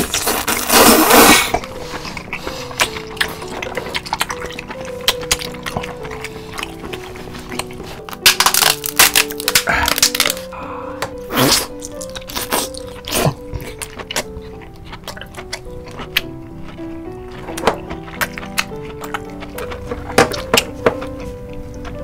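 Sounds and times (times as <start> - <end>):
light background music: 0.0 - 22.0
wet chewing and crunching: 0.0 - 22.0.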